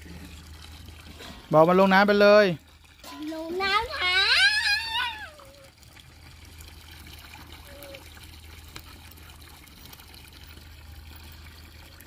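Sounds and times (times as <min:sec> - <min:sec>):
hose water splashing into tub: 0:00.0 - 0:12.0.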